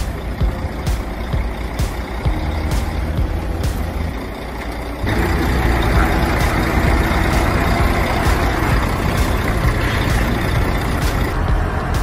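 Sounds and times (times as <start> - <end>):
heavy diesel engine under load: 0.0 - 12.0.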